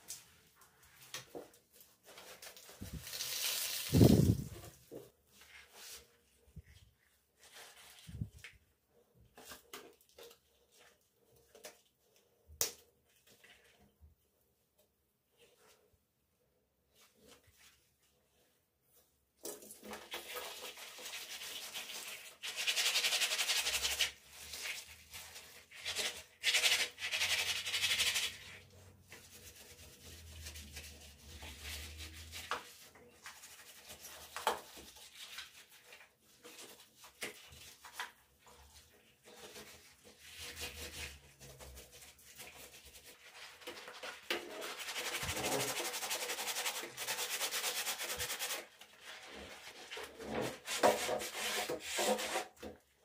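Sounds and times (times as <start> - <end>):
scrubbing bathroom surfaces: 0.0 - 12.2, 17.0 - 53.0.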